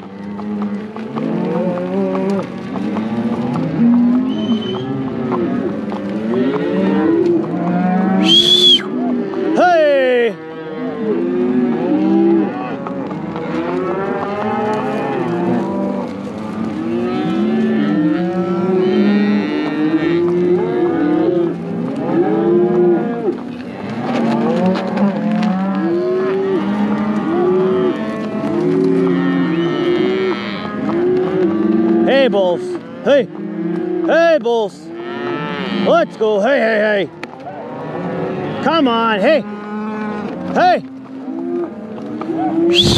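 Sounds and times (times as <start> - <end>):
cattle mooing: 0.0 - 42.9.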